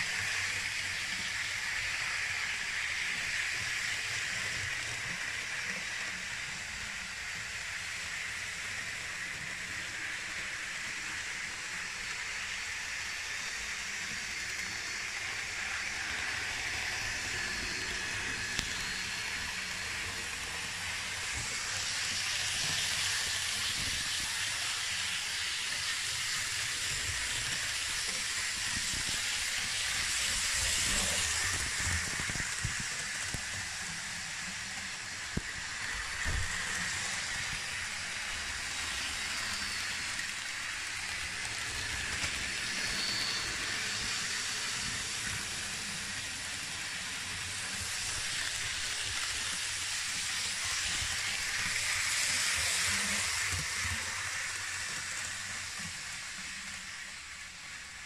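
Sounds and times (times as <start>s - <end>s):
model train wheels and motor hissing: 0.0s - 58.0s.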